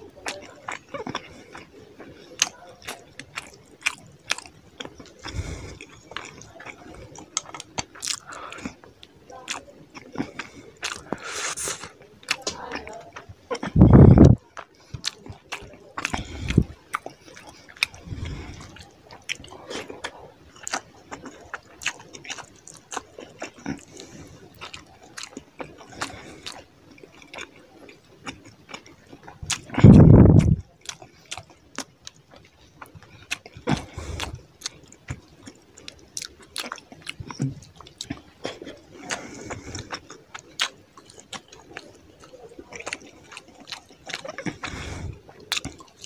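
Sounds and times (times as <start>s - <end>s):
wet chewing and lip-smacking: 0.0s - 46.0s.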